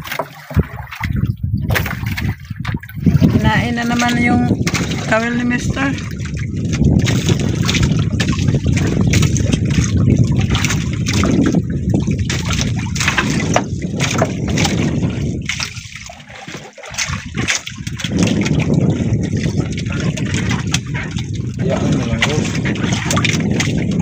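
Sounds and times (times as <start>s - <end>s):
water splashing against boat hull: 0.0s - 24.0s
wind rumbling on microphone: 0.0s - 24.0s.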